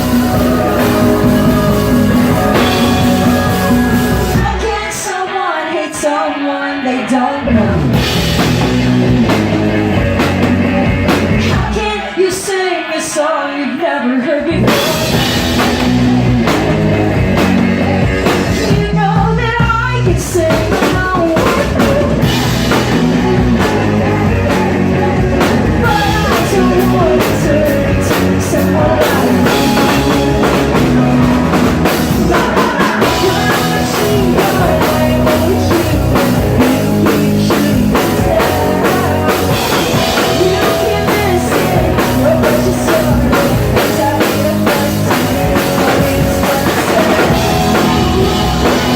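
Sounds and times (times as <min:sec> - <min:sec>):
live rock band playing: 0:00.0 - 0:06.1, 0:07.0 - 0:12.9, 0:14.5 - 0:48.9
person singing: 0:00.0 - 0:08.8, 0:09.9 - 0:16.6, 0:17.4 - 0:48.9.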